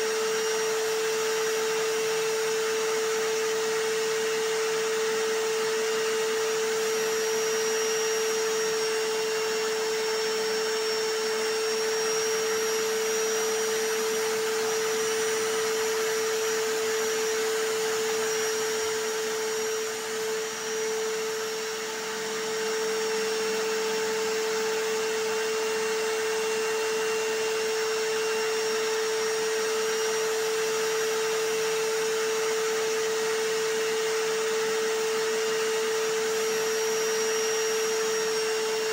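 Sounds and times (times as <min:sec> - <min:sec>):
hammer drill: 0:00.0 - 0:38.9
vacuum cleaner: 0:00.0 - 0:38.9.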